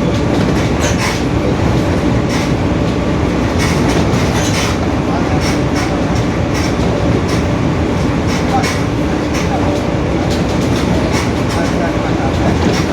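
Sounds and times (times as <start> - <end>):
bus body rattles: 0.0 - 12.9
bus differential droning: 0.0 - 12.9.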